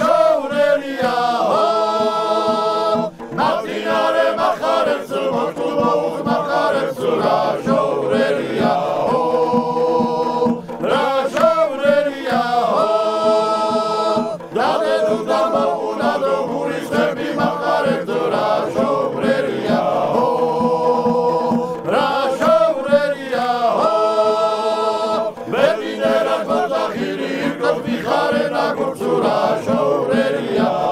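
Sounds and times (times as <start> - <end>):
male choir singing: 0.0 - 30.9.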